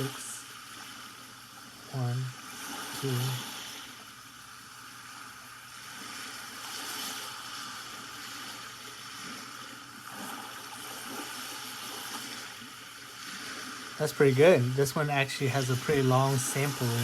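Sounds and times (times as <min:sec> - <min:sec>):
ocean waves from small speaker: 0:00.0 - 0:17.0.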